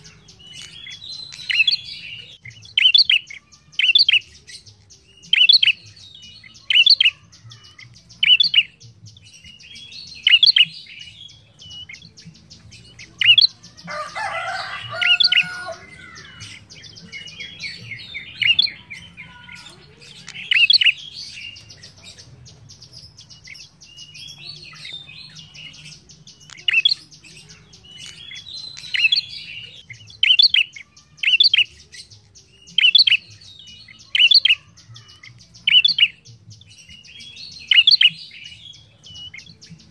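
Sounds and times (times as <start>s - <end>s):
bird sharp chirps: 0.0s - 8.8s, 9.4s - 39.8s.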